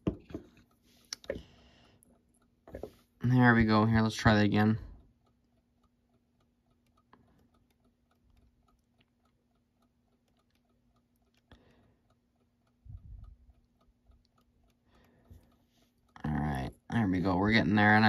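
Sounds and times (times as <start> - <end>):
clock ticking: 0.0 - 18.0
faint steady hum: 0.0 - 18.0.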